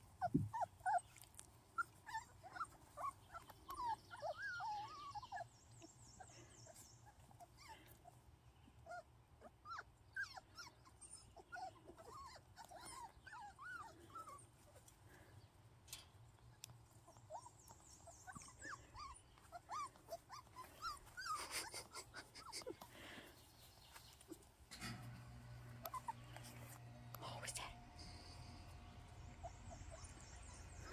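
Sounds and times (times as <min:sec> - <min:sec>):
puppies squeaking and whimpering: 0:00.1 - 0:08.2, 0:08.8 - 0:15.2, 0:16.8 - 0:24.5, 0:25.1 - 0:30.9.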